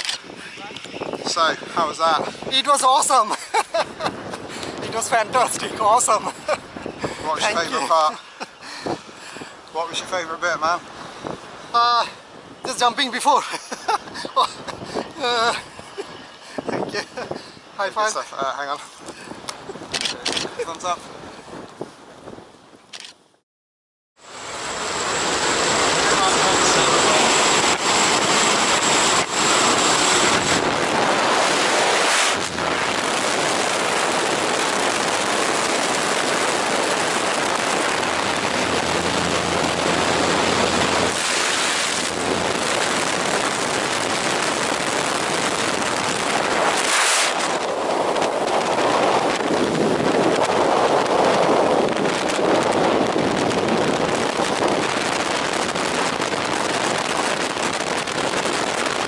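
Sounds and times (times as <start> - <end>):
wind buffeting microphone: 0.0 - 22.9, 24.4 - 59.0.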